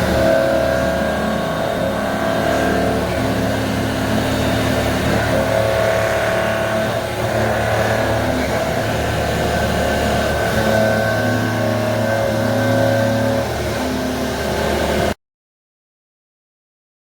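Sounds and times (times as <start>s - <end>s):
low machine hum: 0.0s - 15.2s
milling machine whine: 0.0s - 15.2s.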